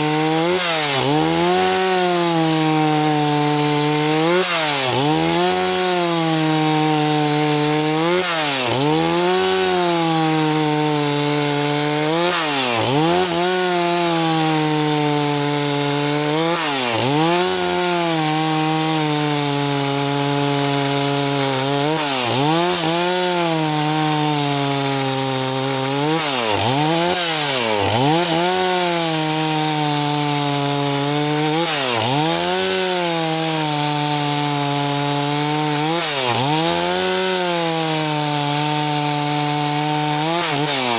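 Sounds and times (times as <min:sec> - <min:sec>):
chainsaw sawing wood: 0:00.0 - 0:40.9.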